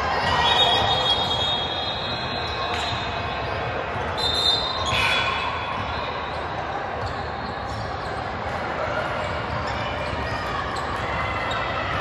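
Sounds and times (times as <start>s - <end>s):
gym hall noise: 0.0s - 12.0s.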